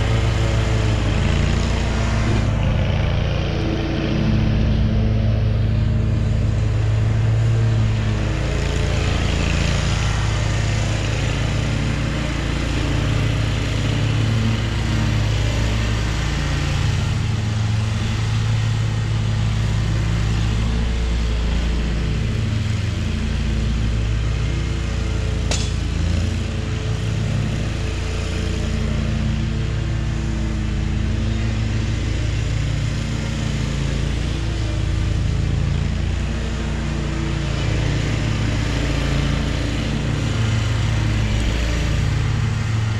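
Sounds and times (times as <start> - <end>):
riding mower engine running: 0.0 - 42.9.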